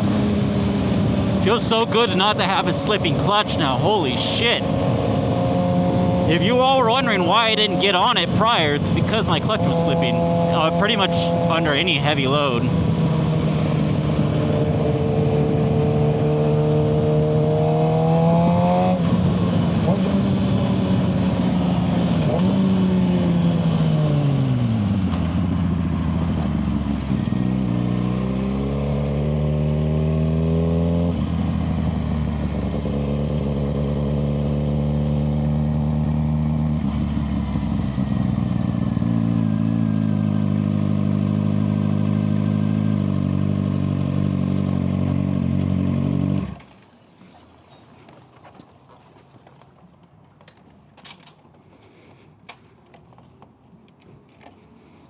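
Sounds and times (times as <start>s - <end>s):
motorcycle engine revving: 0.0s - 46.8s.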